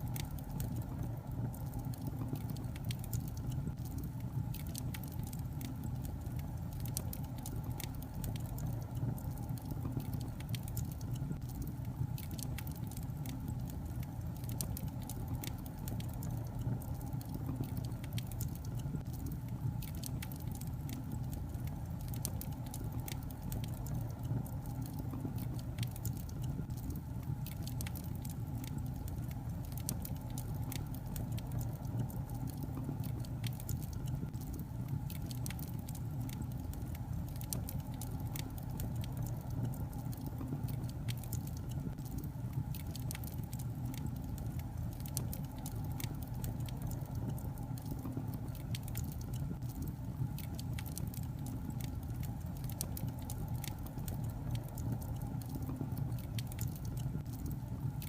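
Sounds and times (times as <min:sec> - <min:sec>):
low rumble of fire: 0:00.0 - 0:58.0
wood fire crackling and popping: 0:00.0 - 0:58.0.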